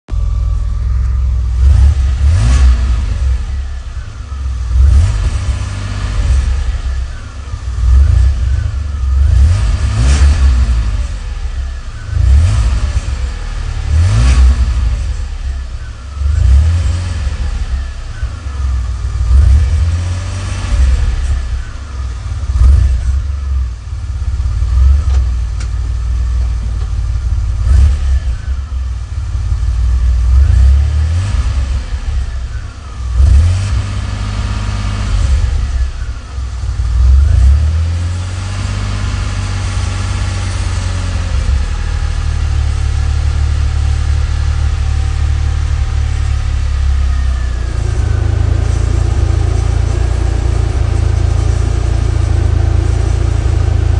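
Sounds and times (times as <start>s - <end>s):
car engine idling and revving: 0.0s - 53.9s
rattle under car: 0.1s - 53.9s.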